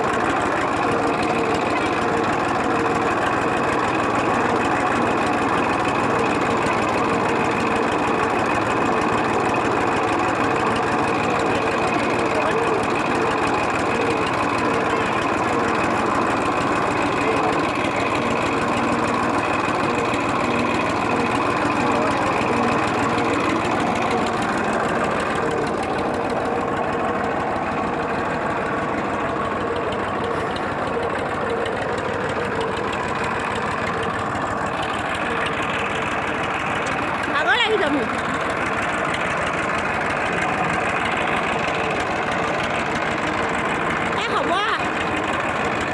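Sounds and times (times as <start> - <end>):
tractor diesel engine knocking: 0.0 - 45.9.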